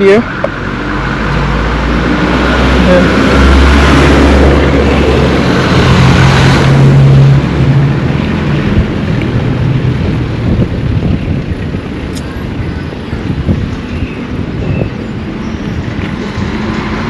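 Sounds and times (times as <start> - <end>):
distant traffic rumble: 0.0 - 17.0
wind: 0.0 - 17.0.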